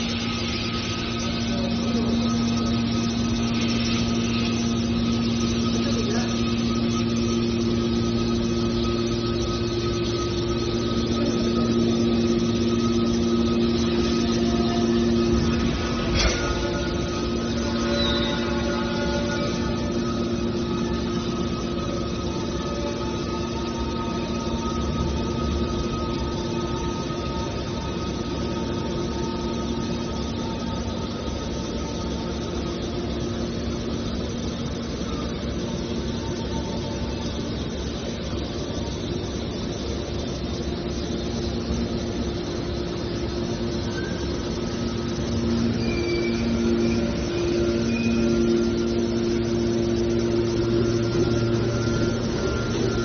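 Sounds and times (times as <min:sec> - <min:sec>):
hydraulic power unit humming: 0:00.0 - 0:53.0
whining tones: 0:00.0 - 0:53.0.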